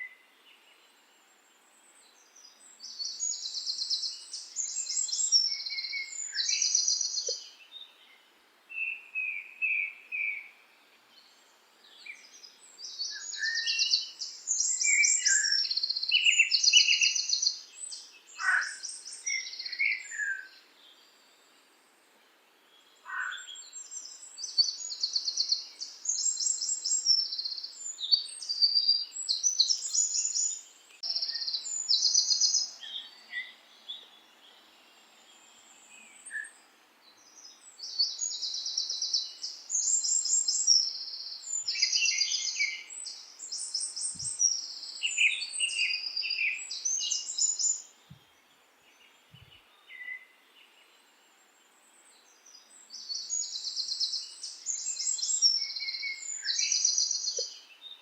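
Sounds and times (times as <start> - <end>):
faint steady hiss: 0.0 - 58.0
songbirds trilling: 1.9 - 8.2, 11.2 - 21.2, 22.8 - 58.0.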